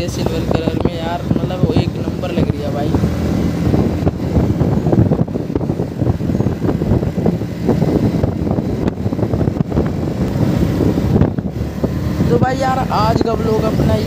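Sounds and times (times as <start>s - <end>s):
motorcycle engine cruising: 0.0s - 14.0s
wind on microphone: 0.0s - 14.0s.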